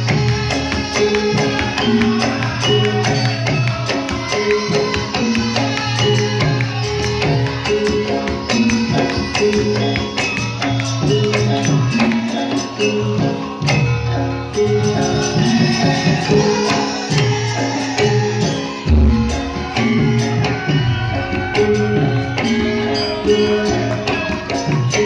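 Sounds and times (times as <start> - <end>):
jingling percussion beat: 0.0 - 25.0.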